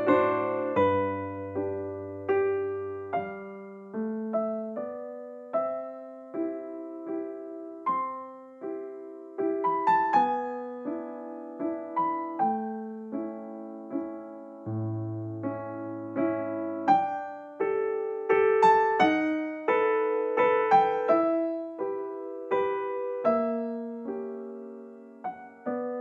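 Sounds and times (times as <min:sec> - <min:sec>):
slow piano melody: 0:00.0 - 0:26.0.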